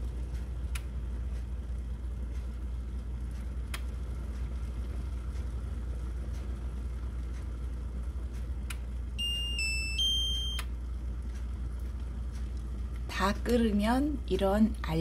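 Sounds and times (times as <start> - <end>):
kettle water boiling: 0.0 - 9.2, 10.7 - 15.0.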